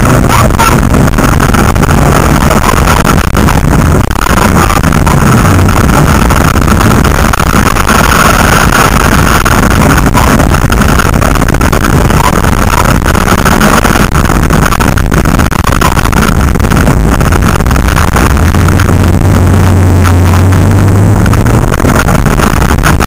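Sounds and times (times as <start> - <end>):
race car engine running hard: 0.0 - 23.0.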